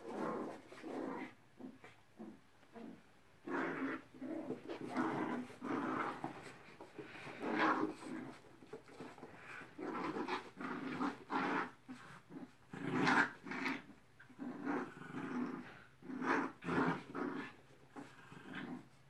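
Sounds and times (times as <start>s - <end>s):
dogs play-growling: 0.0s - 19.0s.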